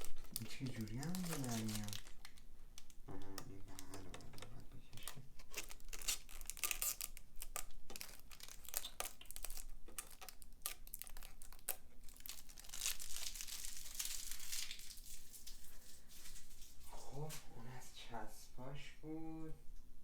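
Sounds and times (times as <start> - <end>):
stickers being peeled: 0.0 - 16.8
plastic crackling: 0.0 - 16.9.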